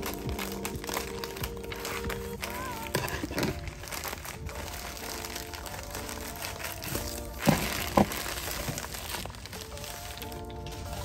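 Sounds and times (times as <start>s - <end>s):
plastic bag rustling: 0.0s - 11.0s
soft background music: 0.0s - 11.0s.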